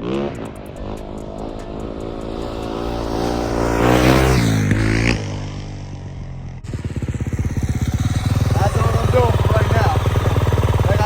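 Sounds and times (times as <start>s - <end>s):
dirt bike engine accelerating: 0.0s - 11.0s.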